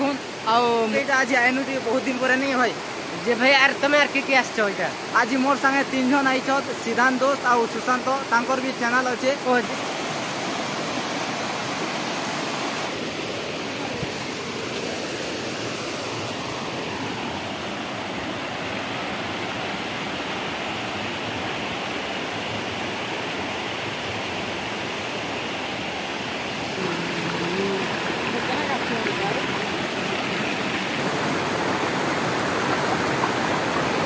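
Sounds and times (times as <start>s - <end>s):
water rushing over boulders: 0.0s - 34.0s.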